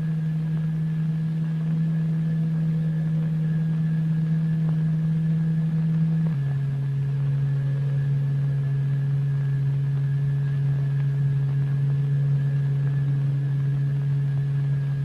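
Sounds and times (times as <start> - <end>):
steady low electronic tone: 0.0 - 15.0.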